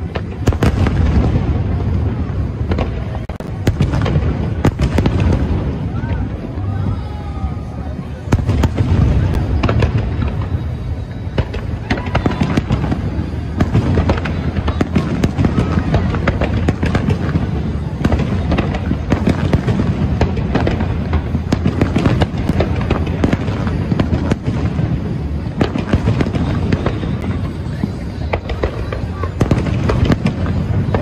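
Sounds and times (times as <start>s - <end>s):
continuous low rumble: 0.0s - 31.0s
fireworks bangs and crackles: 0.0s - 31.0s.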